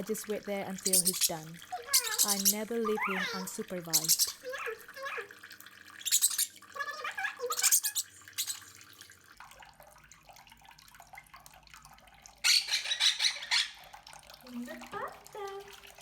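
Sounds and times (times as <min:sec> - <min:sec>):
parrot splashing in water: 0:00.0 - 0:16.0.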